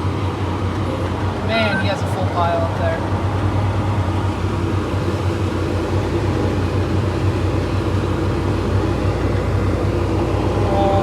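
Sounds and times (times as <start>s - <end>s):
tractor engine low drone: 0.0s - 11.0s.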